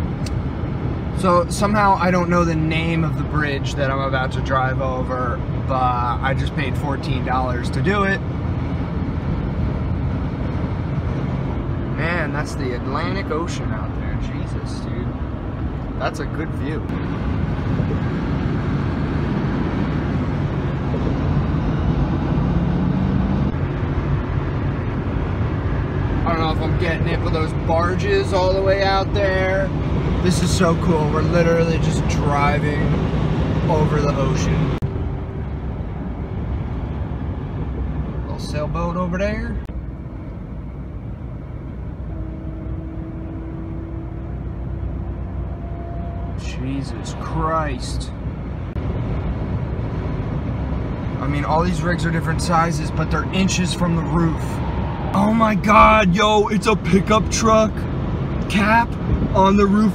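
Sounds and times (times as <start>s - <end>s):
road noise inside truck cab: 0.0s - 59.9s.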